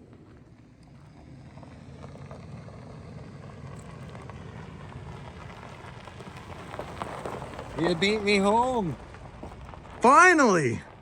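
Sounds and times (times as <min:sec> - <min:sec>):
approaching vehicle rumble: 0:00.0 - 0:11.0.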